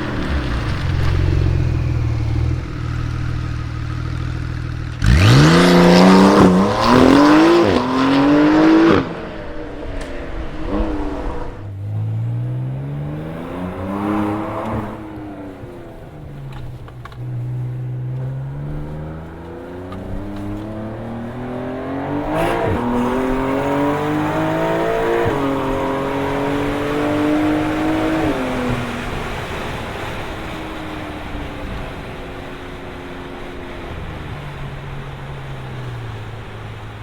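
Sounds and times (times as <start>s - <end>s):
quick gear changes: 0.0s - 32.6s
car engine accelerating: 0.0s - 37.0s.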